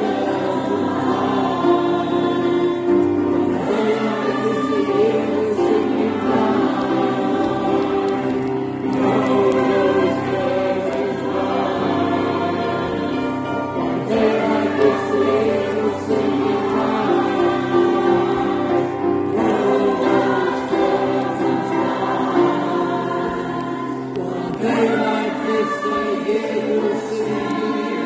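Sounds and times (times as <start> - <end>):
choir singing in harmony: 0.0 - 28.0.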